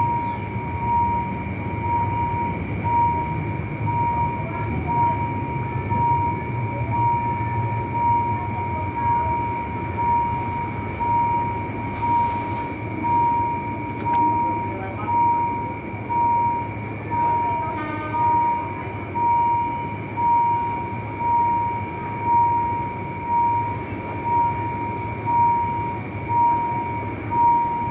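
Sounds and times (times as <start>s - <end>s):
level crossing warning tone: 0.0s - 27.9s
train rumbling: 0.0s - 27.9s.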